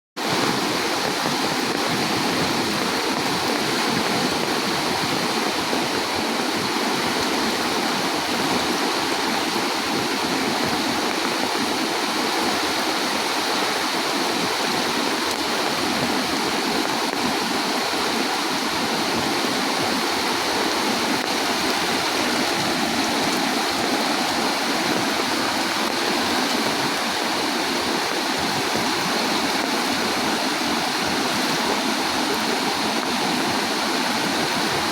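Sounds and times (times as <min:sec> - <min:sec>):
floodwater rushing: 0:00.2 - 0:34.9.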